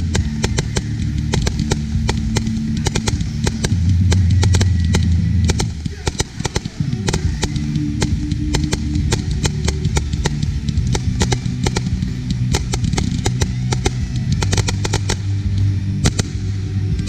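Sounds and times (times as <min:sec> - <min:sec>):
fireworks shots and crackling: 0:00.0 - 0:17.0.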